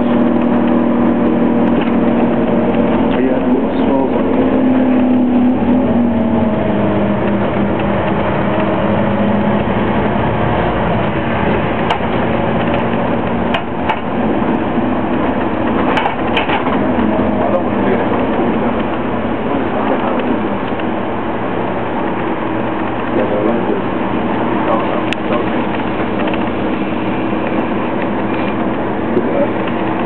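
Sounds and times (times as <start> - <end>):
bus diesel engine: 0.0 - 30.0
road noise: 0.0 - 30.0.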